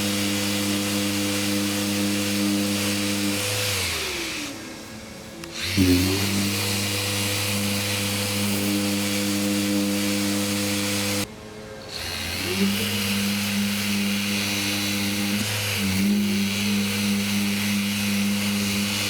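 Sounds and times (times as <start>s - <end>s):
power tool humming and hissing: 0.0s - 19.0s.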